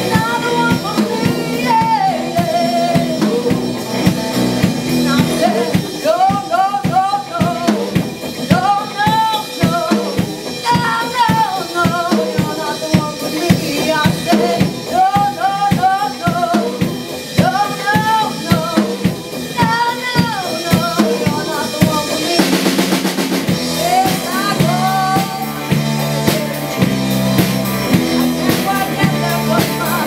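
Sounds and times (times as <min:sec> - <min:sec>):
acoustic and electric guitars: 0:00.0 - 0:30.0
bass guitar: 0:00.0 - 0:30.0
drum kit beat: 0:00.0 - 0:30.0
woman singing lead: 0:00.0 - 0:30.0.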